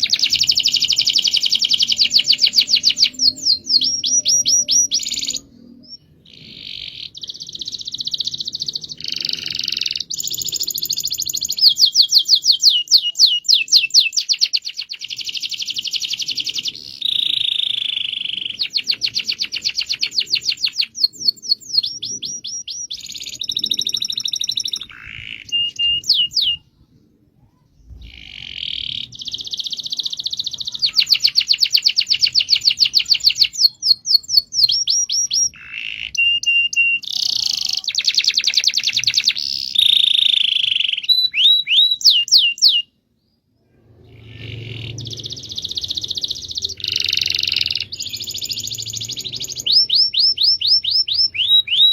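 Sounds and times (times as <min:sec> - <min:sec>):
canary singing trills: 0:00.0 - 0:43.0, 0:43.8 - 0:51.9.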